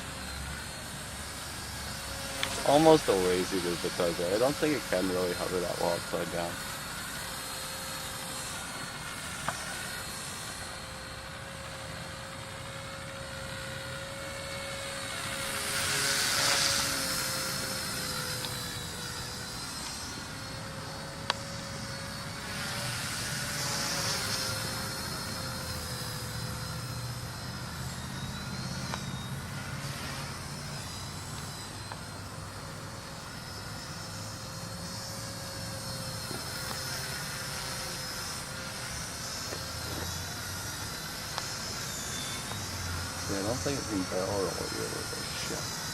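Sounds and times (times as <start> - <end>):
rc helicopter whining in flight: 0.0 - 45.9.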